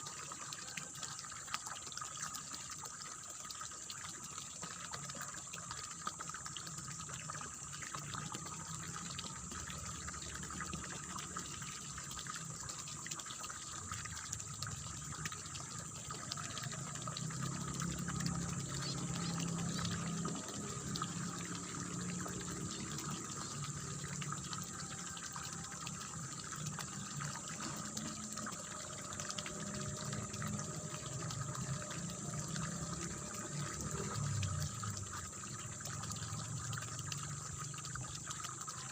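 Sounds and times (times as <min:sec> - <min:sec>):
water running and splashing: 0:00.0 - 0:38.9.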